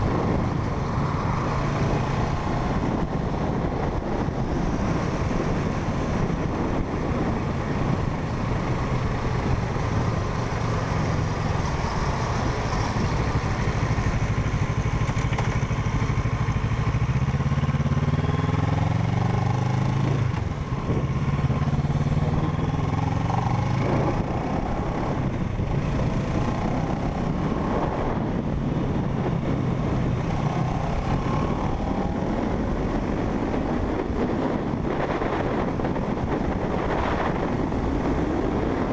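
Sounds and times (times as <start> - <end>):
motorcycle engine: 0.0 - 38.9
wind and road rush: 0.0 - 38.9.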